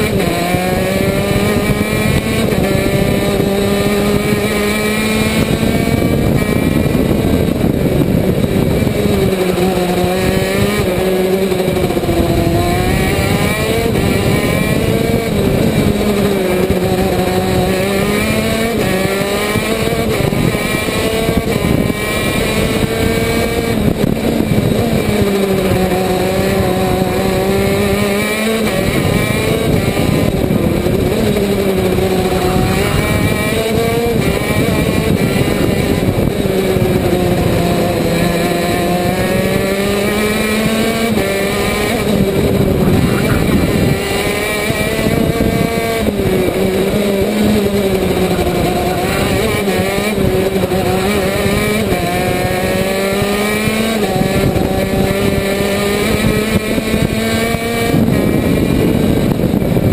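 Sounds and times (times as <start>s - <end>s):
kart engine racing: 0.0s - 59.9s
wind and track noise: 0.0s - 59.9s.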